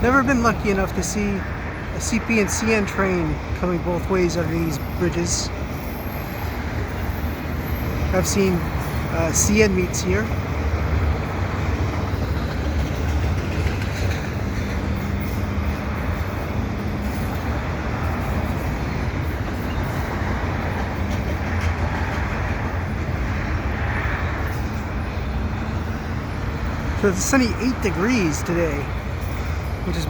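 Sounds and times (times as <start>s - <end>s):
freight train rumbling on rails: 0.0s - 30.0s.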